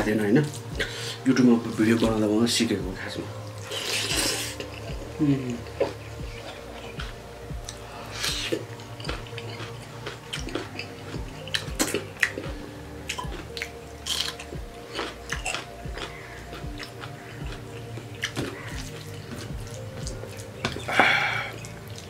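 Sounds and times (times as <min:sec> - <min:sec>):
quiet background music: 0:00.0 - 0:22.0
chewing with wet mouth clicks: 0:03.4 - 0:22.0.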